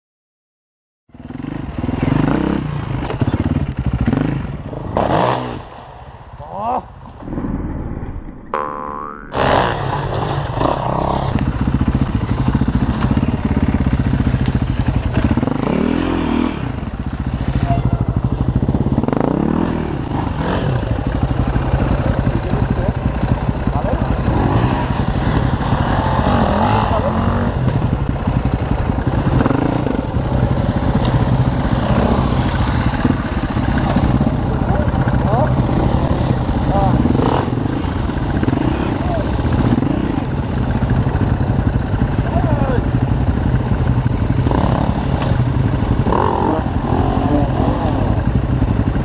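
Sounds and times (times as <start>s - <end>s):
dirt bike engine running: 1.1s - 6.3s, 8.6s - 49.0s.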